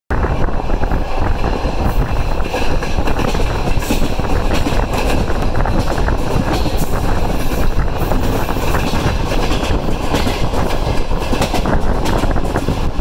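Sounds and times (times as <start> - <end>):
train wheels rumbling on rails: 0.1 - 13.0
constant rattling: 0.7 - 13.0.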